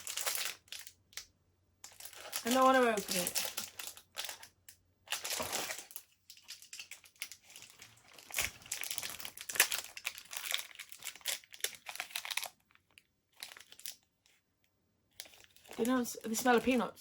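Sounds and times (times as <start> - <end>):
plastic wrapping crinkling: 0.0 - 14.4, 15.1 - 16.9.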